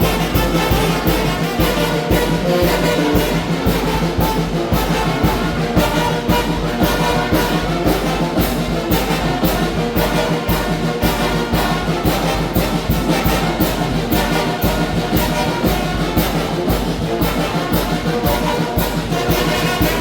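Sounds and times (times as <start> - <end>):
brass melody: 0.0 - 20.0
steady percussion beat: 0.0 - 20.0.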